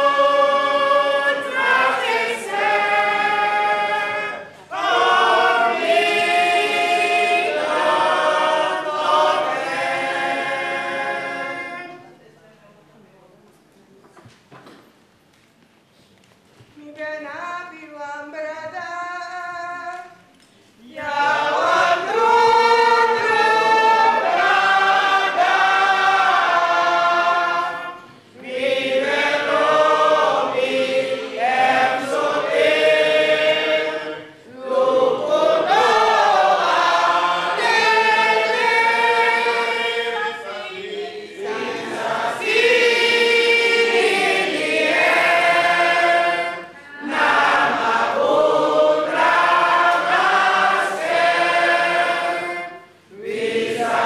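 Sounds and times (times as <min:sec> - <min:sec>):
women singing together: 0:00.0 - 0:12.2, 0:16.8 - 0:54.0.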